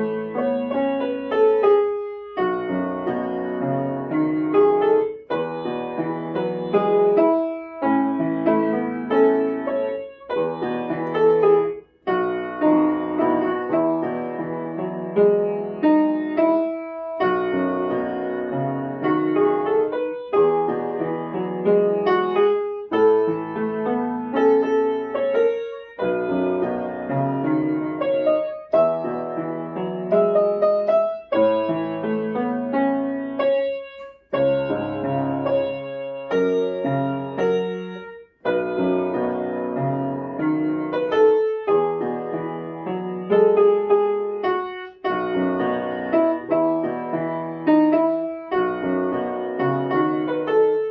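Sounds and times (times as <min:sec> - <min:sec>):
gentle piano melody: 0:00.0 - 0:50.9.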